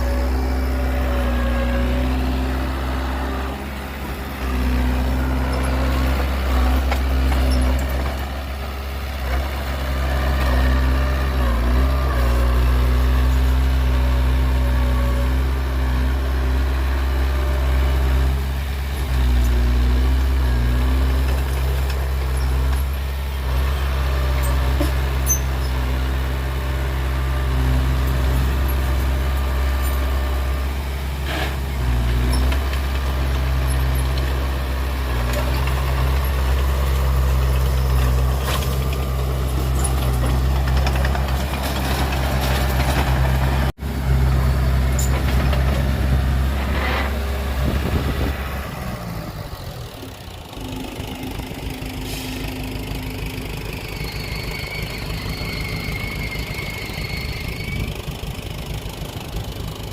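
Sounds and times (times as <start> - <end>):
heavy diesel engine humming: 0.0 - 59.9
rough running engine: 0.0 - 59.9.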